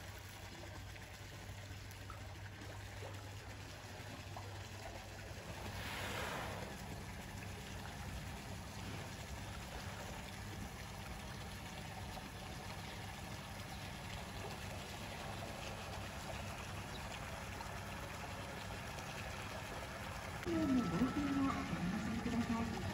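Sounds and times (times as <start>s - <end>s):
low steady hum: 0.0s - 22.9s
running and trickling water: 0.0s - 22.9s.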